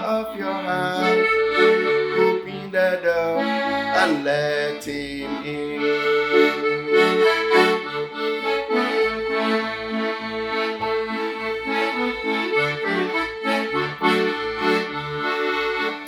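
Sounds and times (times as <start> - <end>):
instrumental gospel backing: 0.0 - 16.0.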